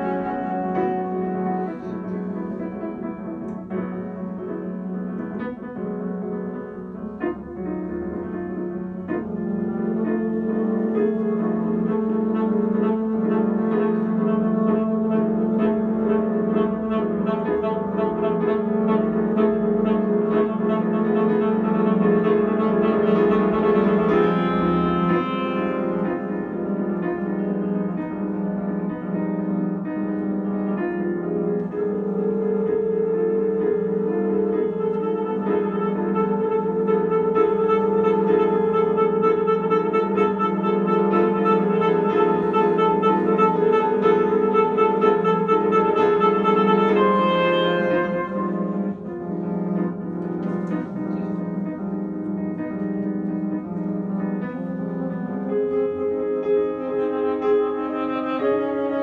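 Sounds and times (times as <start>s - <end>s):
saxophone: 0.0s - 6.5s, 7.5s - 59.0s
grand piano: 0.0s - 59.0s.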